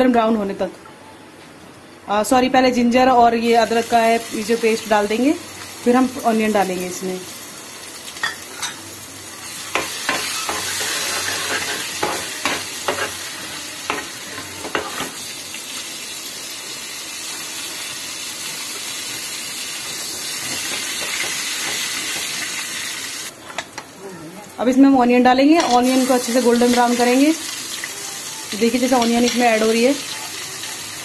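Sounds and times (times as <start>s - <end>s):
paste sizzling in hot oil: 3.6s - 23.3s, 25.8s - 31.0s.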